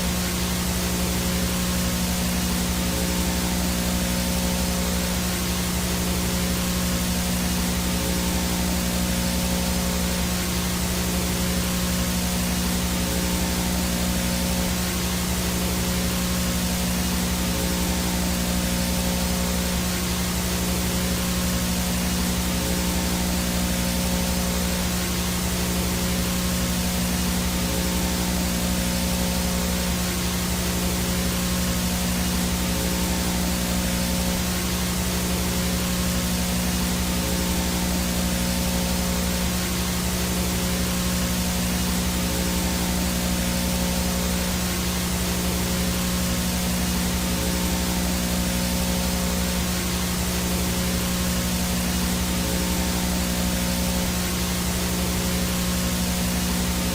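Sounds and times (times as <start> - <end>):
static hiss: 0.0 - 56.9
thin high whine: 0.0 - 56.9.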